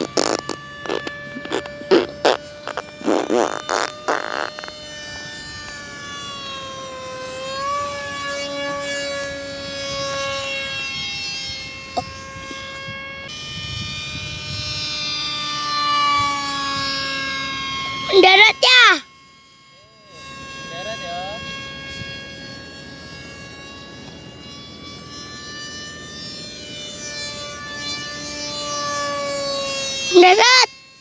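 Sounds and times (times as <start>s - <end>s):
model jet whine: 0.0s - 31.0s.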